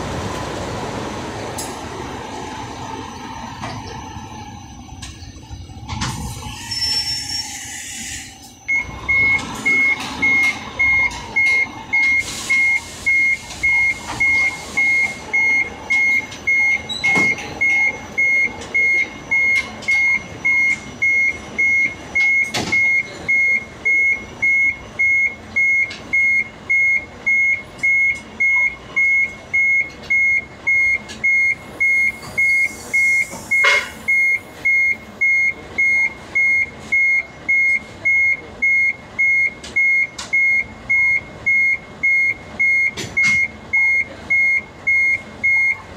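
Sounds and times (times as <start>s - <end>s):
truck engine running: 0.0s - 7.0s, 8.2s - 45.9s
truck reversing alarm beeping: 1.6s - 45.9s.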